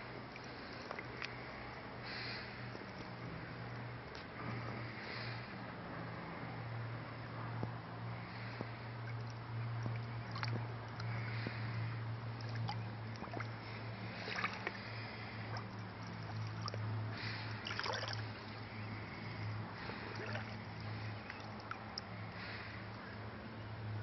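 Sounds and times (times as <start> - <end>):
water sloshing and splashing: 0.0 - 4.8, 8.1 - 23.0
steady low hum: 0.0 - 24.0.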